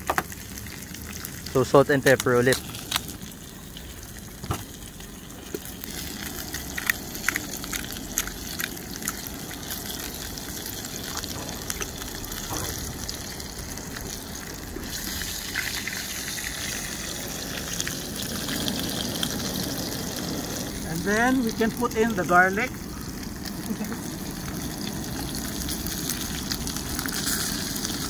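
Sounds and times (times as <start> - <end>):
steak sizzling in pan: 0.0 - 28.0.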